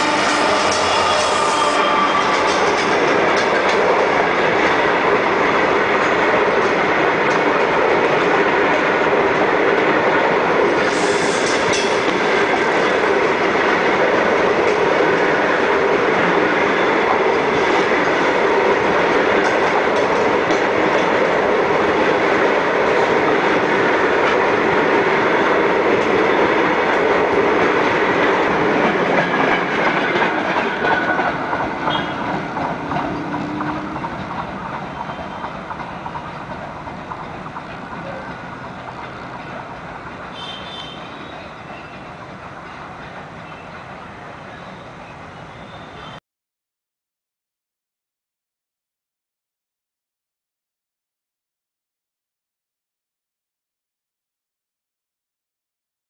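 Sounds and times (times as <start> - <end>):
train wheels rumbling on rails: 0.0 - 46.2.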